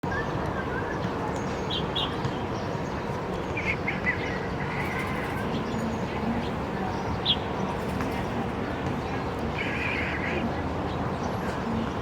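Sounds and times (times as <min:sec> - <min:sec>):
steady background noise: 0:00.0 - 0:12.0
sparrows chirping: 0:00.2 - 0:11.8.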